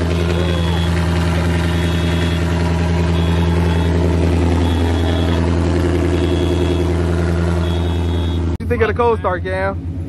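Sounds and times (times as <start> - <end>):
loud car engine idling: 0.0 - 10.0.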